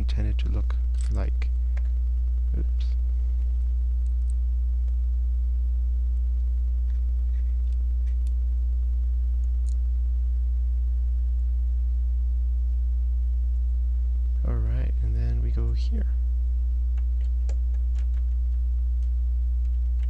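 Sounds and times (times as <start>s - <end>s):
low electrical mains hum: 0.0s - 20.0s.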